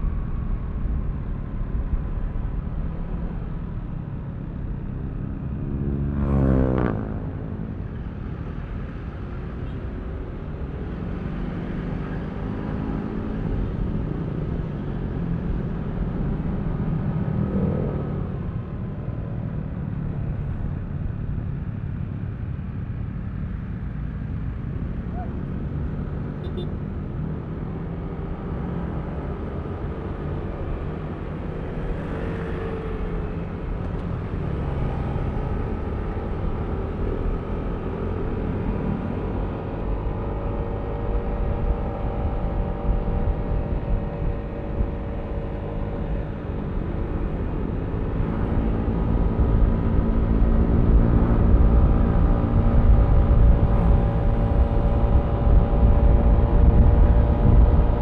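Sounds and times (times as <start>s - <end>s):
wind rumble on microphone: 6.3s - 58.0s.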